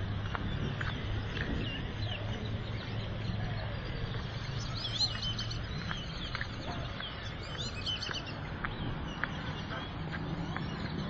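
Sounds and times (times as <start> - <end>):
low hum of road traffic: 0.0 - 11.0
small birds chirping: 0.0 - 11.0.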